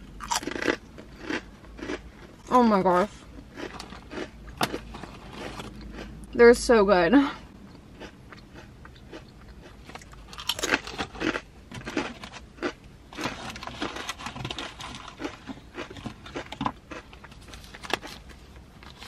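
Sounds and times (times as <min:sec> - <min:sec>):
potato chips being chewed: 0:00.2 - 0:02.7, 0:03.4 - 0:06.4, 0:07.6 - 0:19.0.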